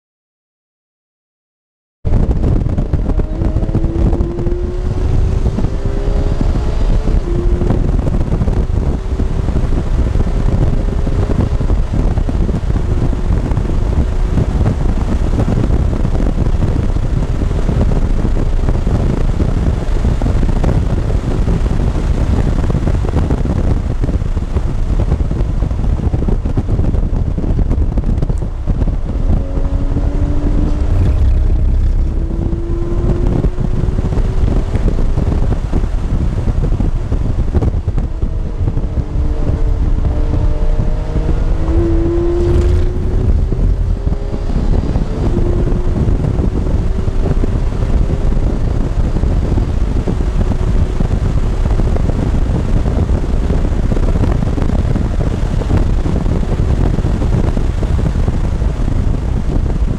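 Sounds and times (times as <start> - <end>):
car engine at full throttle: 2.0 - 59.9
wind and road rumble: 2.0 - 59.9.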